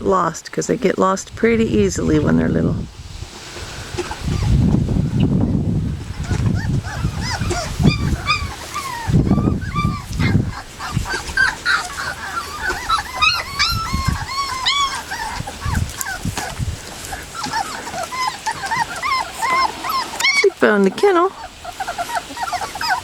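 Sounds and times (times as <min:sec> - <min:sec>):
low rumbling: 0:00.0 - 0:20.0
puppies whimpering and yipping: 0:04.0 - 0:23.0.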